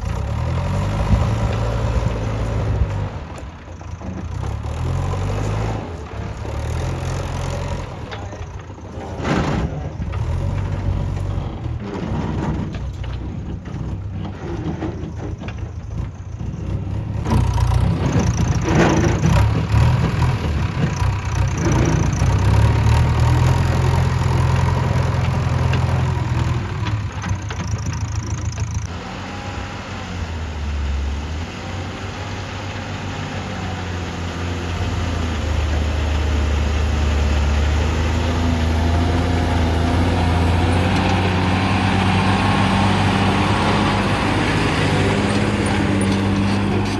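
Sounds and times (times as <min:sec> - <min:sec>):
heavy diesel engine rumbling: 0:00.0 - 0:46.9.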